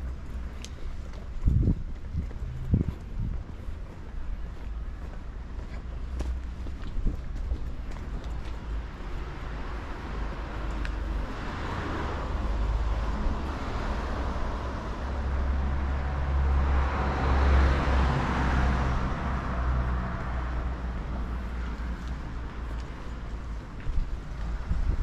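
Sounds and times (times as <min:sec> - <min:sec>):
steady low traffic rumble: 0:00.0 - 0:25.0
vehicles passing: 0:00.0 - 0:25.0.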